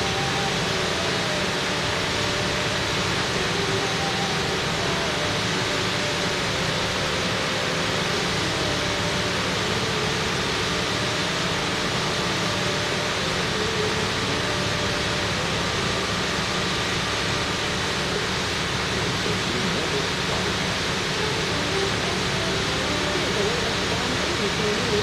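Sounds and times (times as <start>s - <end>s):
faint wavering tones: 0.0s - 25.0s
rushing hiss of background noise: 0.0s - 25.0s.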